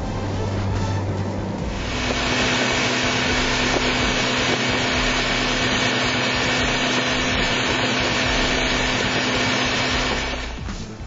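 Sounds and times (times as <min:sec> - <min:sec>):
outboard motor hum: 0:00.0 - 0:10.8.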